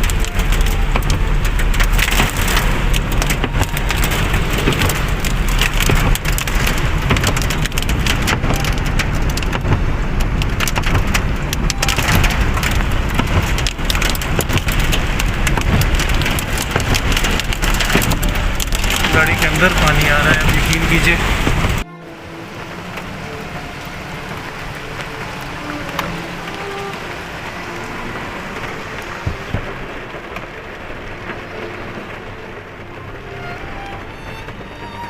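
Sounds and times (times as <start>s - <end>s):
car engine rumble: 0.0s - 35.0s
rain and hail on car roof: 0.0s - 35.0s.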